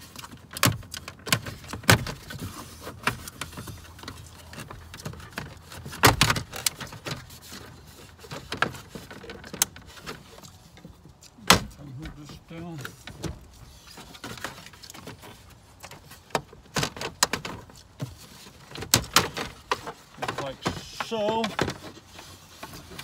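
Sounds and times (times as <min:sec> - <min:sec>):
plastic panel clicking and rattling: 0:00.0 - 0:23.0.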